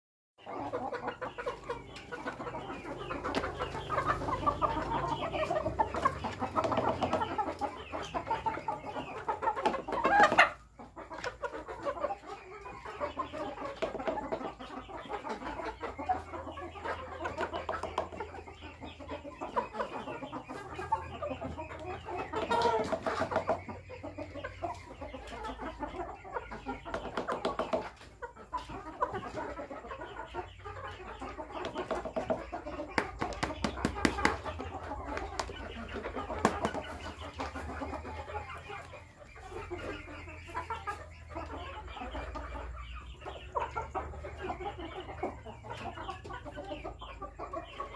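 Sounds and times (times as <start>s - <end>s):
chickens clucking: 0.4s - 47.9s.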